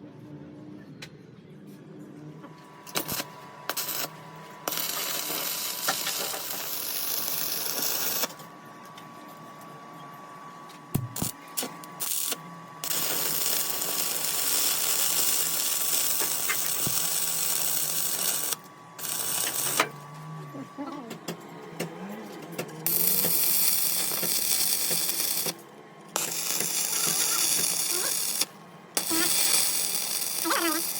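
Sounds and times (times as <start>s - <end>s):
steady thin whine: 2.6s - 21.2s, 22.9s - 30.9s
power tool running: 2.8s - 8.4s, 10.9s - 30.9s.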